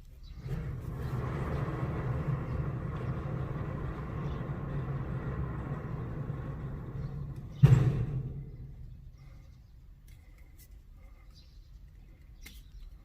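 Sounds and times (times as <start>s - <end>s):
engine rumbling: 0.1s - 11.3s.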